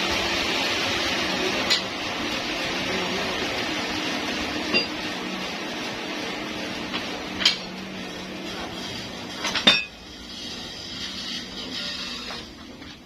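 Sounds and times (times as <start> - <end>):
sawmill machinery humming: 0.0 - 13.0.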